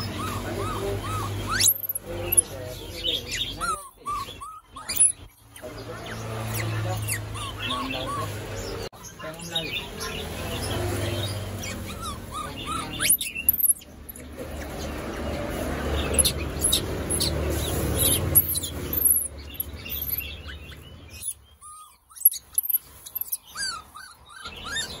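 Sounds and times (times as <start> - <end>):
caged birds chirping: 0.0 - 25.0.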